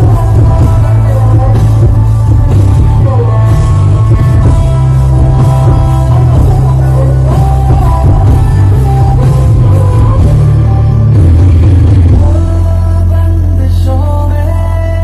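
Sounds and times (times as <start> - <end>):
loud dance music: 0.0 - 12.6
heavy bass: 0.0 - 15.0
person singing: 0.0 - 15.0.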